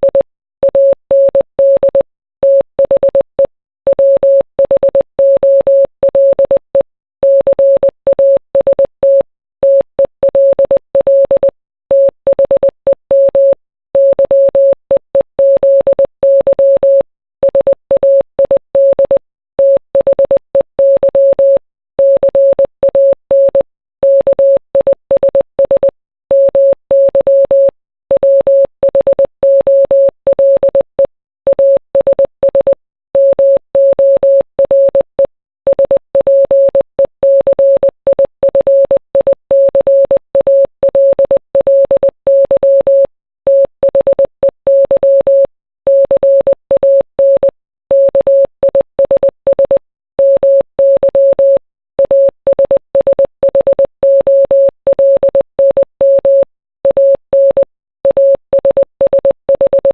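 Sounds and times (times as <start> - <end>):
morse code beeps: 7.2 - 59.9.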